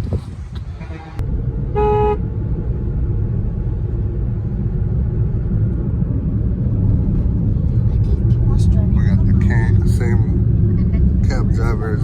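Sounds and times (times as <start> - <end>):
vehicle rumbling along road: 0.0 - 12.0.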